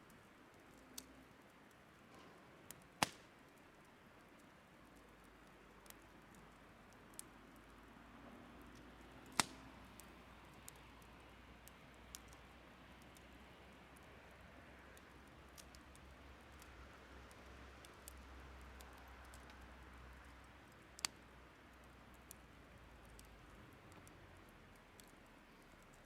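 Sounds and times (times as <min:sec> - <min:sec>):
faint steady hiss: 0:00.0 - 0:26.0
wood fire crackling: 0:00.0 - 0:26.0.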